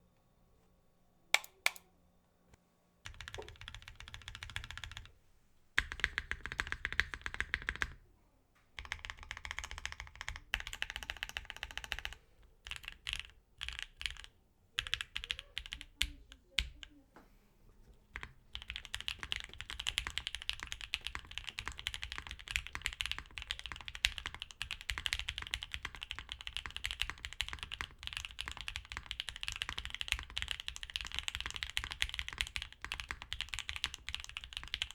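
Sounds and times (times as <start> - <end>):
mechanical keyboard typing: 1.4 - 1.8, 3.1 - 5.1, 5.8 - 8.0, 8.8 - 16.9, 18.2 - 34.9.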